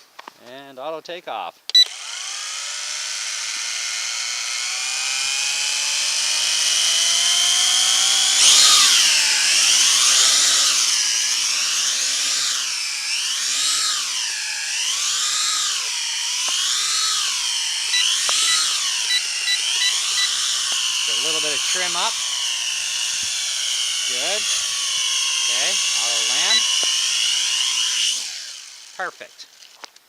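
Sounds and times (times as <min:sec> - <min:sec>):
drone propellers whining: 0:01.8 - 0:29.3.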